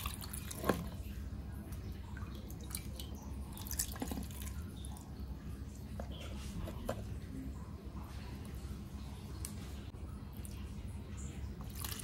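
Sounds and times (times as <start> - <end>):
liquid dripping and trickling: 0.0 - 12.0.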